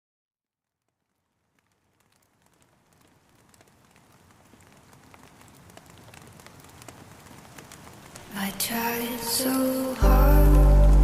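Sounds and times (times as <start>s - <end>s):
rain falling: 0.8s - 11.0s
raindrops ticking: 0.8s - 11.0s.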